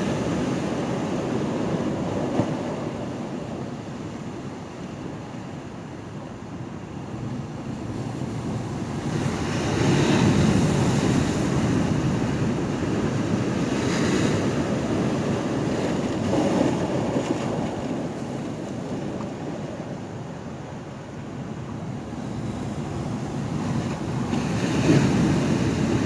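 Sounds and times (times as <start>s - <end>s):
ocean waves washing against pier: 0.0s - 26.0s.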